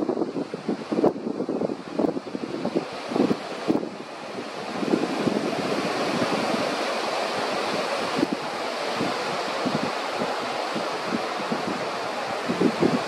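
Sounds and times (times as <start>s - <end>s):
sea surf washing: 0.0s - 13.0s
wind buffeting microphone: 0.0s - 13.0s.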